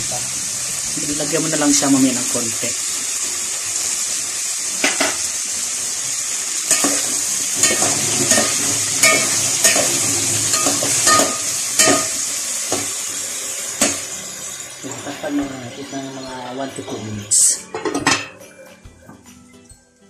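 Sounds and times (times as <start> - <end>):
chicken sizzling in oil: 0.0 - 18.6.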